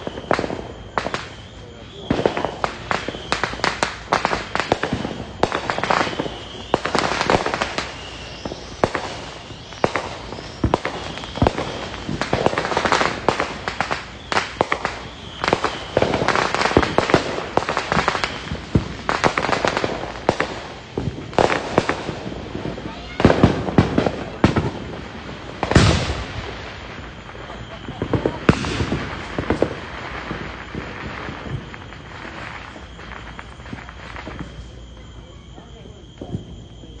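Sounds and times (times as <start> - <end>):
firecrackers crackling and popping: 0.0 - 37.0
loud firework bangs: 0.0 - 37.0.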